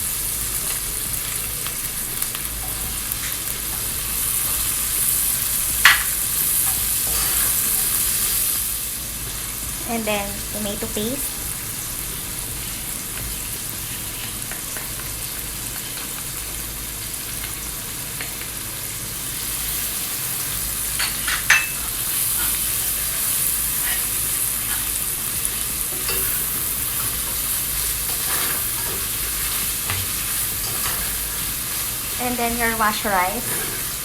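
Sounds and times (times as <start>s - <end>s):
vegetables sizzling in hot oil: 0.0s - 34.0s.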